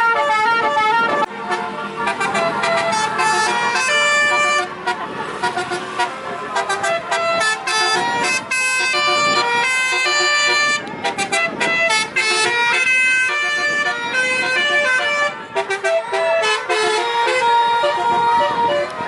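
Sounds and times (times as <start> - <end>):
car horns playing melodic runs: 0.0 - 19.0.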